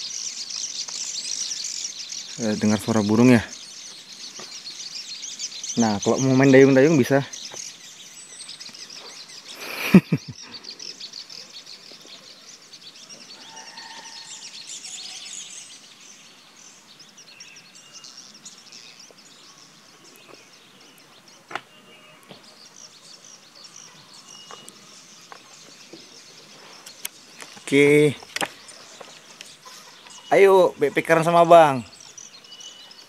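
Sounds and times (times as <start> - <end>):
birds chirping and calling: 0.0 - 33.0.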